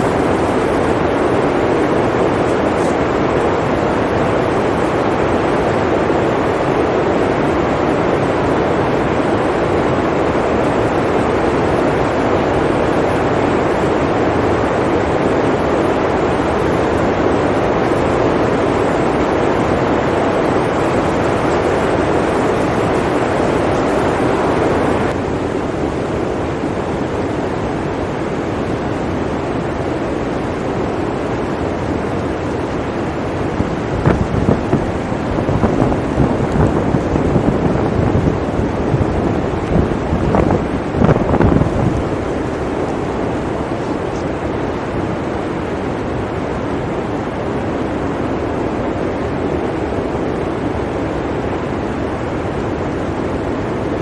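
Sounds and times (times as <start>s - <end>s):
blizzard wind rushing: 0.0s - 54.0s.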